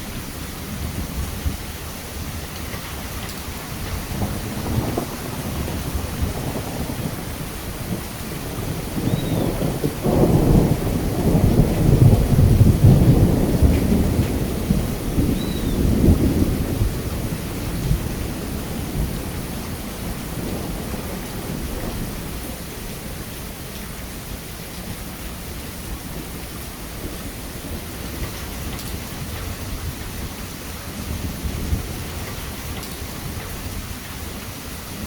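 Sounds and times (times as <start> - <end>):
heavy rain: 0.0 - 35.0
low rolling thunder: 0.0 - 35.0.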